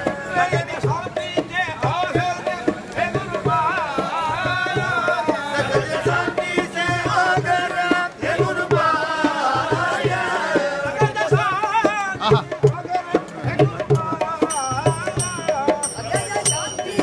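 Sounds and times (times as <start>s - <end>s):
barrel drum beating: 0.0s - 17.0s
men singing together: 0.0s - 17.0s.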